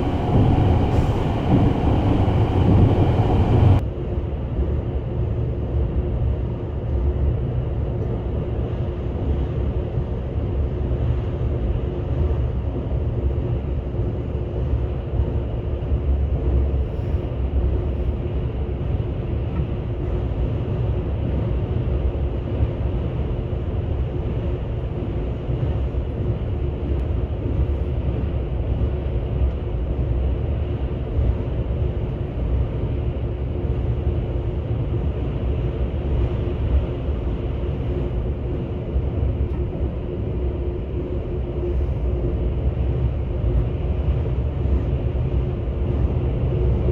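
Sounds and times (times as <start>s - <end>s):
train wheels rumbling on rail: 0.0s - 3.8s, 11.8s - 46.9s.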